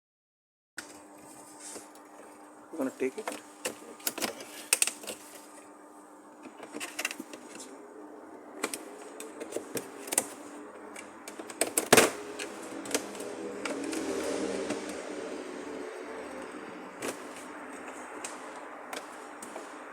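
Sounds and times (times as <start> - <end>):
steady hum: 0.8 - 19.9.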